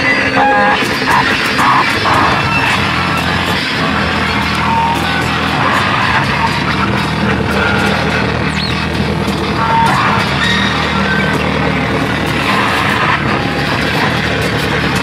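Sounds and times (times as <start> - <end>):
high squealing tones: 0.0 - 15.0
low drone: 0.0 - 15.0
wall of guitar noise: 0.0 - 15.0.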